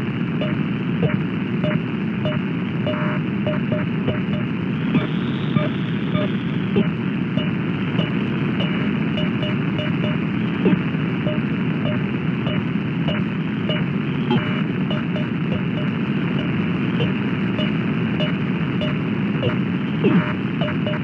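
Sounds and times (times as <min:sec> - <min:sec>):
faint radio signal blips: 0:00.0 - 0:21.0
radio band noise hiss: 0:00.0 - 0:21.0.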